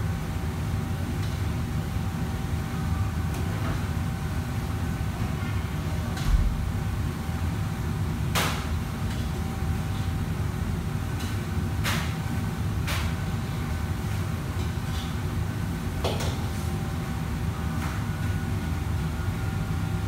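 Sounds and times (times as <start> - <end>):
wok range and extractor rumble: 0.0 - 20.0.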